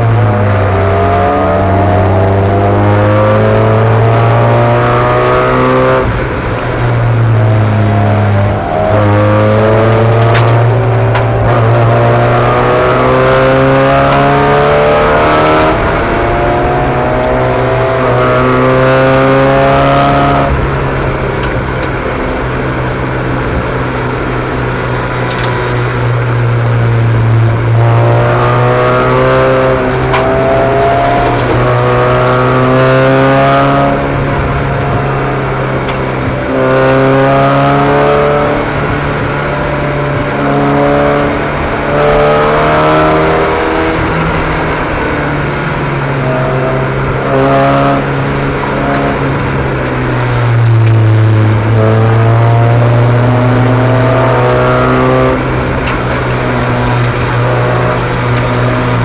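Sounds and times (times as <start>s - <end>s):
race car engines revving: 0.0s - 59.0s
steady low drone: 0.0s - 59.0s.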